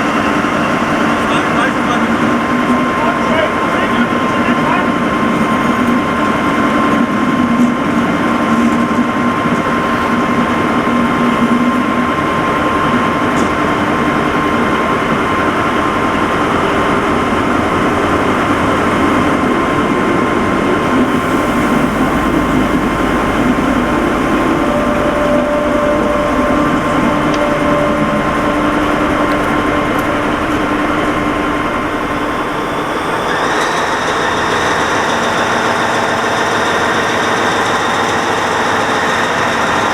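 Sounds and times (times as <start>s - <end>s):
diesel locomotive engine humming: 0.0s - 39.9s.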